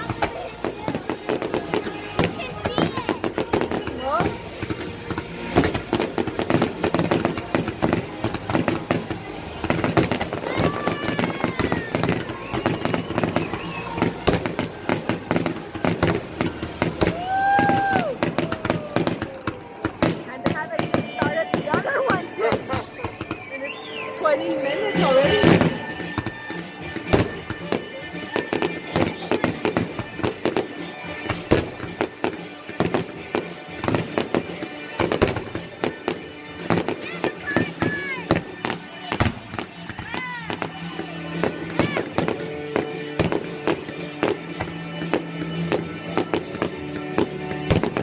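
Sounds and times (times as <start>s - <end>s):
firework whistling tone: 0.0s - 46.8s
fireworks bangs and crackles: 0.0s - 48.0s.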